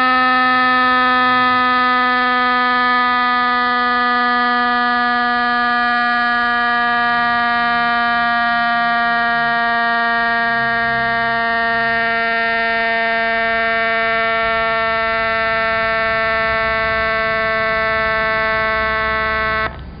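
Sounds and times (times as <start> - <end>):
buzzing siren horn tone: 0.0 - 19.8.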